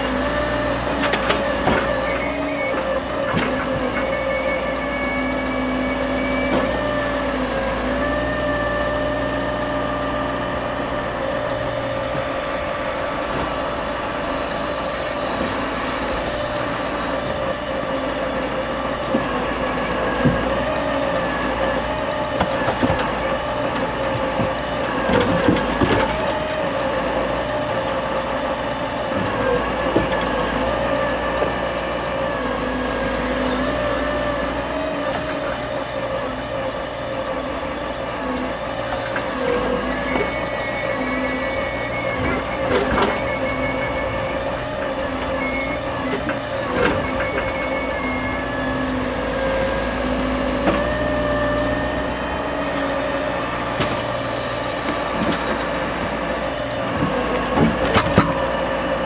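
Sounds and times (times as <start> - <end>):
crane hydraulics whining: 0.0 - 59.0
truck engine running: 0.0 - 59.0.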